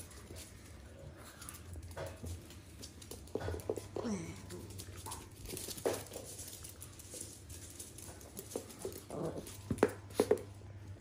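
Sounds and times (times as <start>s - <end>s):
paws tapping on floor: 0.0s - 11.0s.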